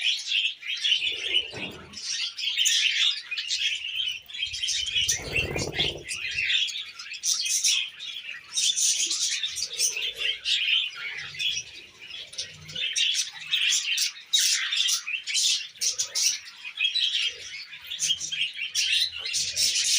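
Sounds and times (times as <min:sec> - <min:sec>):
budgies and cockatiels chirping: 0:00.0 - 0:19.9.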